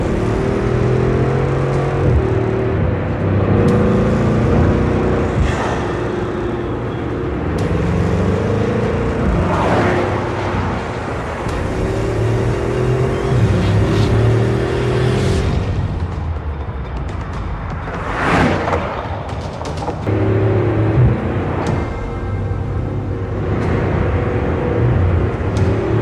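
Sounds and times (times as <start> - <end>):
car engine at highway speed: 0.0 - 26.0
road noise: 0.0 - 26.0.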